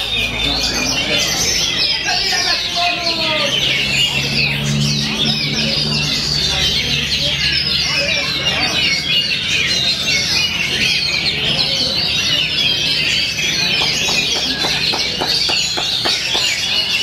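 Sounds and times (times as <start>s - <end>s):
songbirds whistling and chattering: 0.0s - 17.0s.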